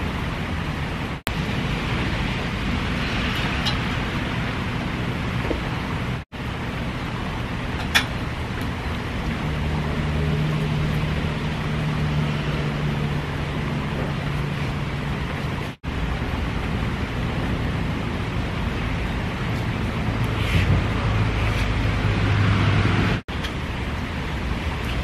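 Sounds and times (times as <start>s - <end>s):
rain falling: 0.1s - 20.3s.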